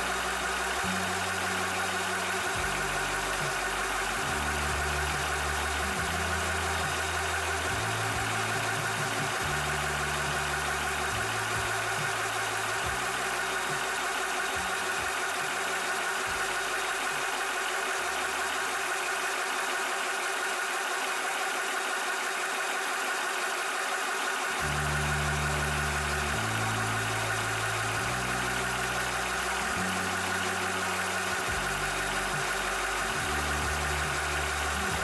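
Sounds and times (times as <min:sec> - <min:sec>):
air compressor running: 0:00.0 - 0:35.0.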